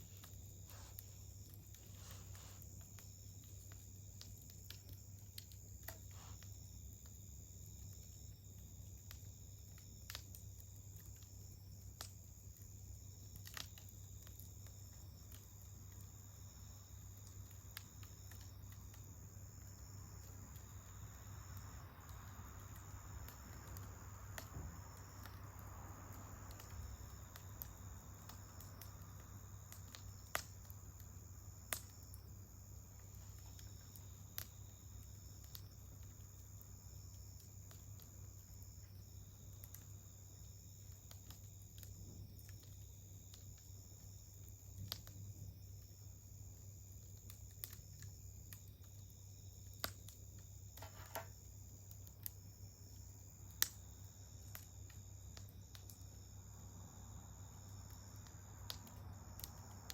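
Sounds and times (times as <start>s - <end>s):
campfire crackling: 0.0s - 59.9s
fire popping: 0.0s - 59.9s
insects trilling: 0.0s - 59.9s.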